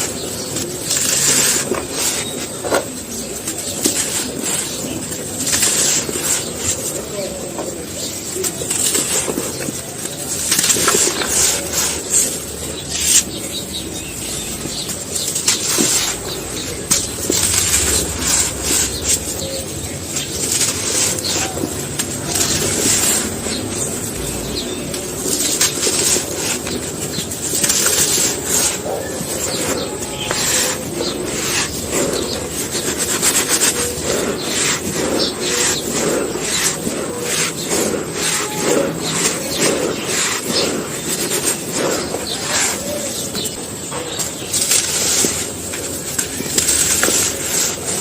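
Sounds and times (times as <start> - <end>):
sandy material crunching: 0.0 - 48.0.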